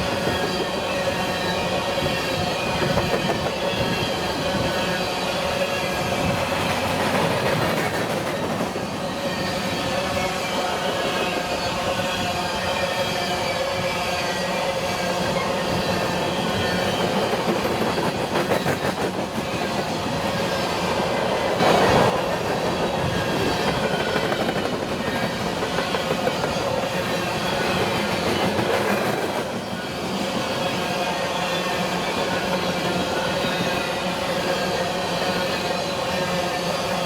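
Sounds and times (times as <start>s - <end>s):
freight train wheels clacking: 0.0s - 37.0s.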